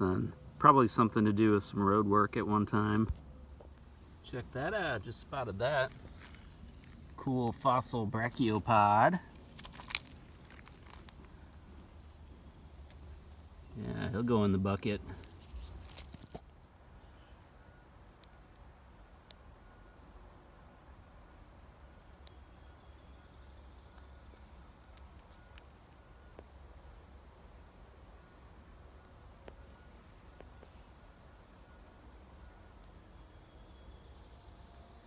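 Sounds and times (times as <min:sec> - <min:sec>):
high-pitched insect trill: 0:00.0 - 0:35.0.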